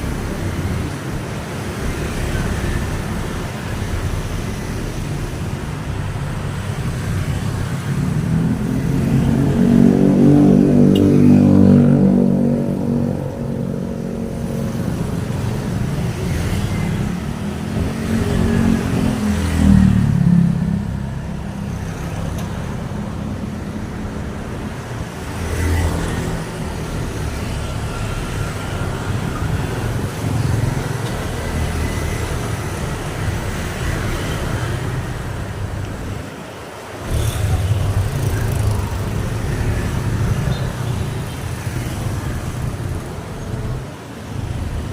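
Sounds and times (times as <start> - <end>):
motor vehicles passing: 0.0 - 44.9
steady road noise: 0.0 - 44.9.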